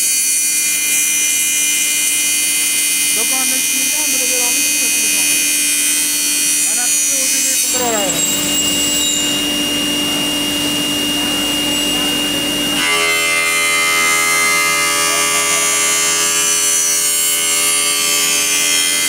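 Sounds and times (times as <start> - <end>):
cutter cutting metal: 0.0 - 19.0
machine spindle whining: 0.8 - 19.0.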